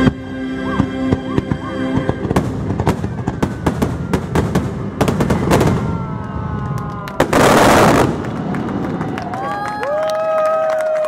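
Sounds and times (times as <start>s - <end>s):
fireworks bangs: 0.0s - 9.8s
fireworks crackling: 0.0s - 10.3s.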